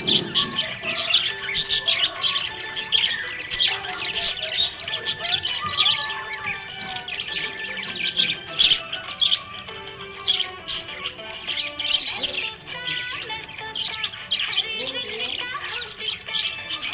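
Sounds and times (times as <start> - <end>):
budgerigar chirping: 0.0 - 16.9.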